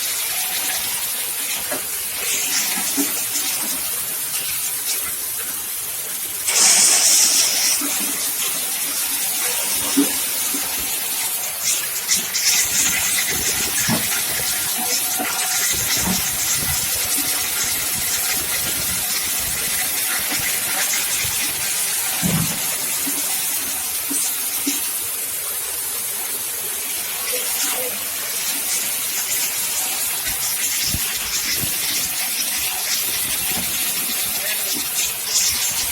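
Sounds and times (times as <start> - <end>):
nut cracking machine hissing: 0.0 - 25.0, 27.2 - 35.9.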